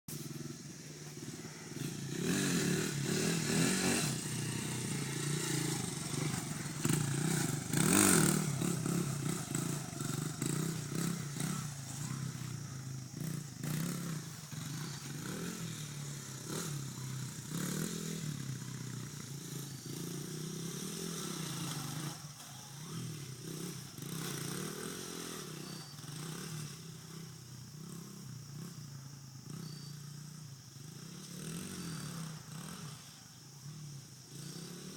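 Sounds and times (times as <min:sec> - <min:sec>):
dirt bike engine revving: 0:00.1 - 0:28.8, 0:29.4 - 0:34.9.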